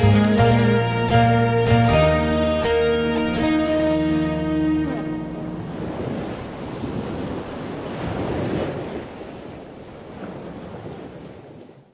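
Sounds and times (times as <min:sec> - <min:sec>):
sea waves washing ashore: 0:00.0 - 0:11.9
wind: 0:00.0 - 0:11.9.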